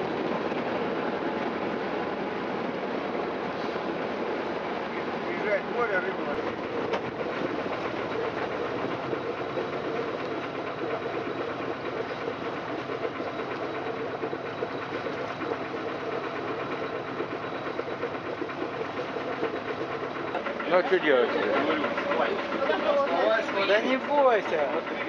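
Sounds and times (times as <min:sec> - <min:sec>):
motor boat engine droning: 0:03.2 - 0:25.0.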